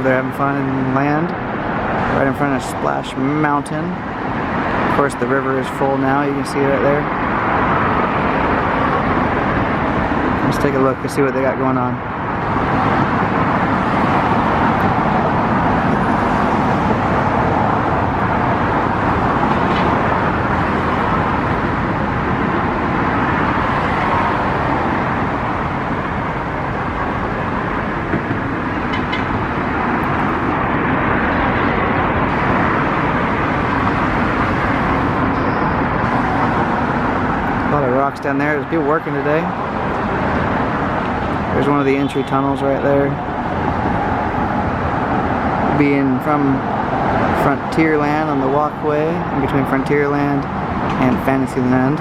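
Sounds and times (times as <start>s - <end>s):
road traffic rushing: 0.0s - 52.0s.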